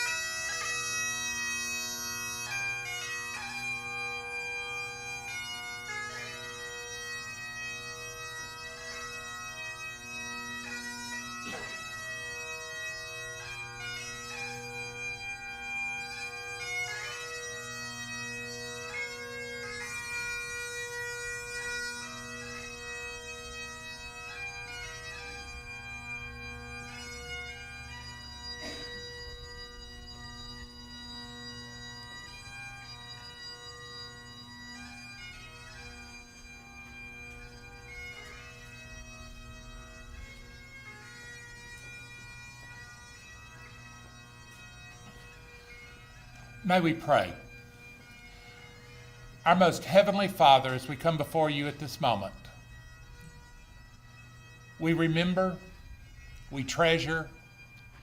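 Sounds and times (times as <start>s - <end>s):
bagpipes playing slow tune: 0.0s - 58.0s.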